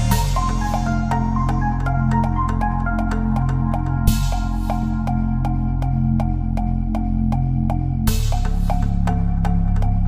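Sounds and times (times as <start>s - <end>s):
electronic music with clicky beat: 0.0s - 10.0s.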